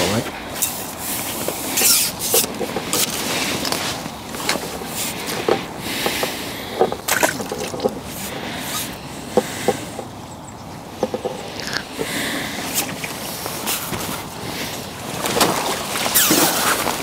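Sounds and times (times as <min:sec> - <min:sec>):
steady rustle: 0:00.0 - 0:17.0
fishing tackle clicks and scrapes: 0:00.5 - 0:10.1, 0:10.9 - 0:17.0.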